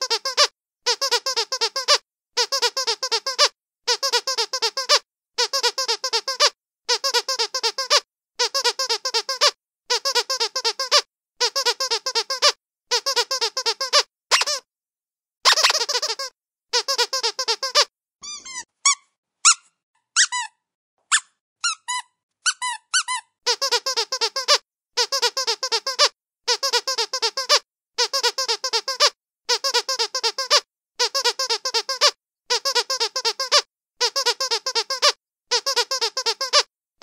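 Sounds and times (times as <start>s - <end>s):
squeaky dog toy: 0.0s - 14.7s, 15.4s - 36.7s.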